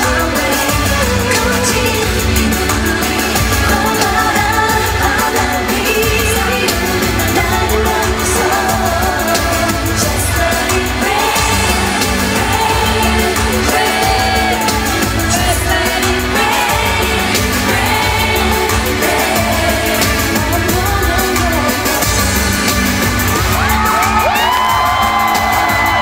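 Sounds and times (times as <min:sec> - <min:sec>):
backing track with heavy bass: 0:00.0 - 0:26.0
woman singing into microphone: 0:00.0 - 0:26.0.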